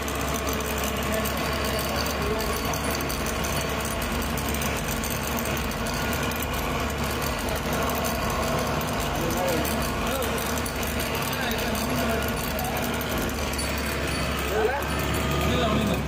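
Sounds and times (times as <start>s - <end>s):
road and cabin noise: 0.0s - 16.0s
vehicle engine droning: 0.0s - 16.0s.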